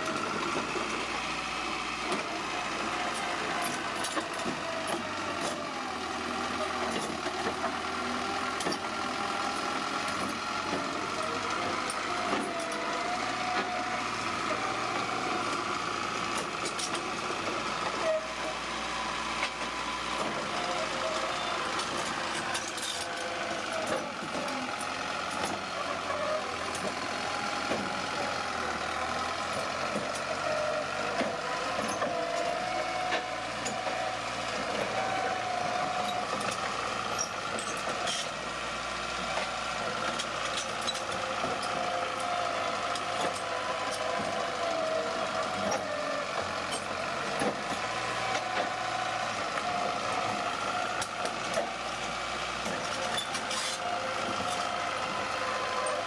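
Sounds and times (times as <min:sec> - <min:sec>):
bulldozer diesel engine whining: 0:00.0 - 0:56.0.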